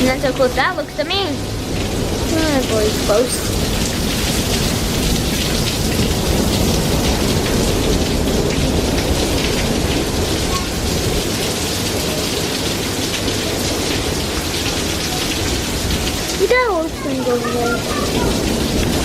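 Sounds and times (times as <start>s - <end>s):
heavy rain pouring: 0.0s - 19.0s
thunder rumbling: 0.0s - 19.0s.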